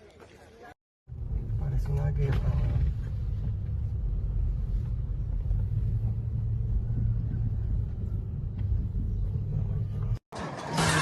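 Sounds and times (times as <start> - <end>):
steady low rumble: 1.1 - 10.2.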